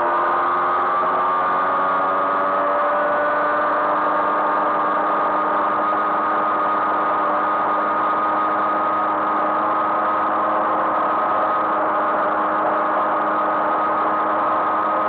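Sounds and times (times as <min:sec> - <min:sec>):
two-stroke moped engine droning: 0:00.0 - 0:15.0.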